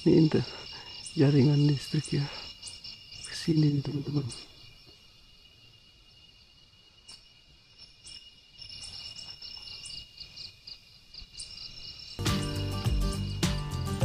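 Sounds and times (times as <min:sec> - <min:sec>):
crickets trilling: 0:00.0 - 0:14.0
insect chirping: 0:00.0 - 0:14.0.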